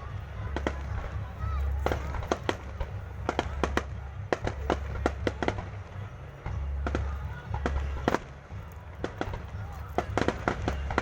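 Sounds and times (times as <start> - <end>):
fireworks cracking and popping: 0.0 - 11.0
steady low rumble: 0.0 - 11.0.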